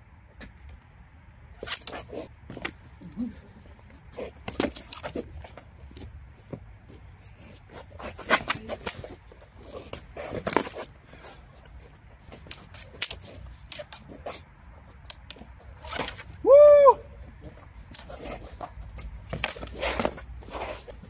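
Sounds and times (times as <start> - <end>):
sparring swords clacking: 1.6 - 6.1, 7.1 - 16.5, 17.3 - 21.0.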